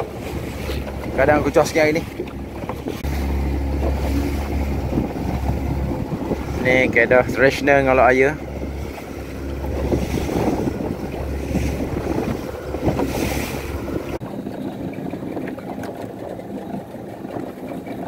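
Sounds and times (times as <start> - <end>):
boat engine drone: 0.0 - 18.0
water rushing: 0.0 - 18.0
wind on microphone: 0.0 - 18.0.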